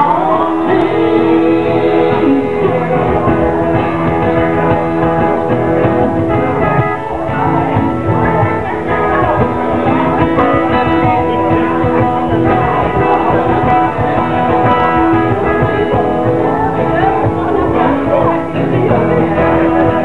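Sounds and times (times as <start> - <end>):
acoustic guitars playing: 0.0 - 20.0.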